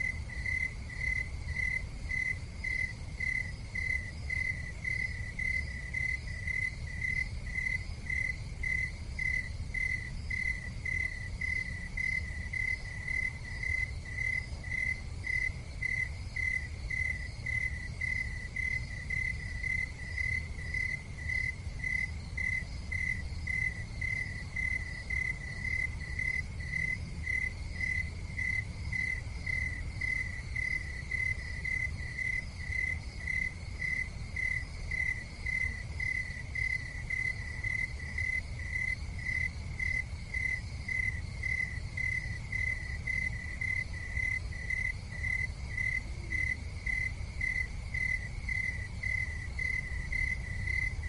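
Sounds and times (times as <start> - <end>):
cricket chirping: 0.0 - 51.0.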